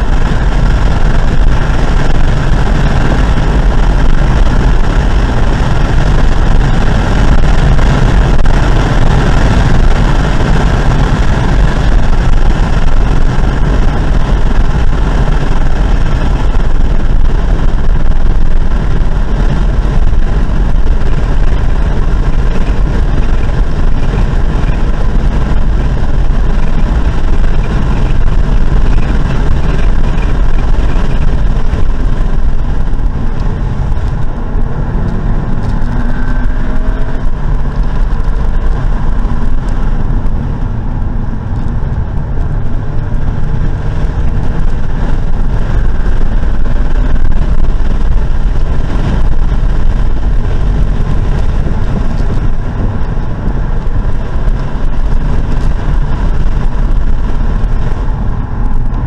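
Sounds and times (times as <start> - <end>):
car engine roar from inside cabin: 0.0 - 59.0
road noise: 0.0 - 59.0.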